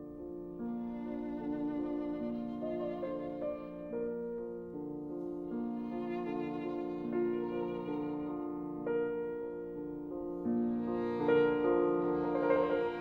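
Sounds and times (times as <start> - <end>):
bowed string melody: 0.0 - 13.0
piano chords: 0.0 - 13.0.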